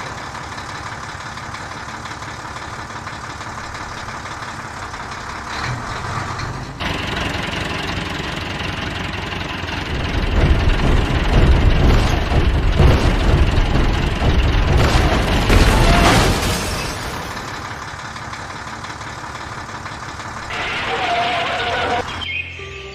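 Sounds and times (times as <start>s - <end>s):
deep engine rumble: 0.0s - 22.3s
vehicle engine running: 0.0s - 22.3s.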